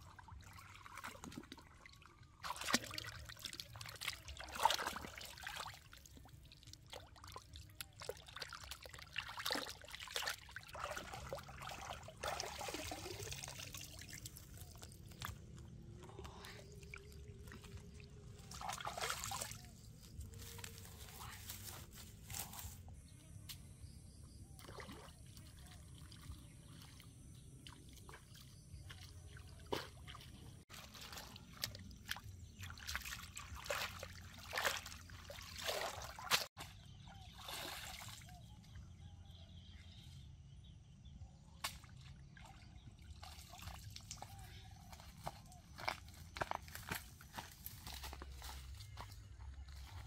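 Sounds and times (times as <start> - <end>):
water sloshing and splashing: 0.0 - 21.6, 24.4 - 38.5, 41.6 - 46.8.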